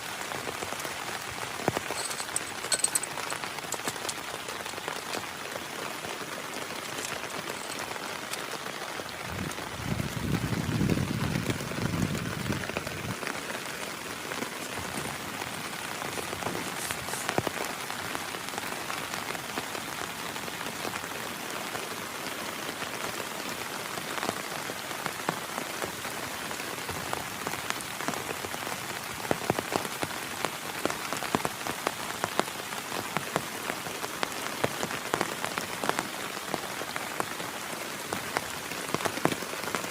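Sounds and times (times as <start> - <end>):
heavy rain falling: 0.0 - 39.9
raindrops striking a surface: 0.0 - 39.9.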